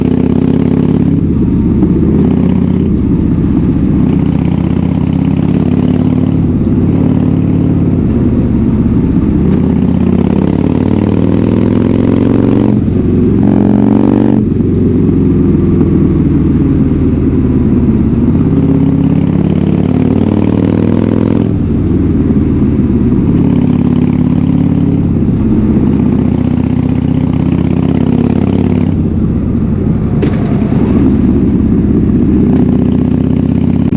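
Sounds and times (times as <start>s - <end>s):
loud motorcycle engine revving: 0.0s - 33.9s.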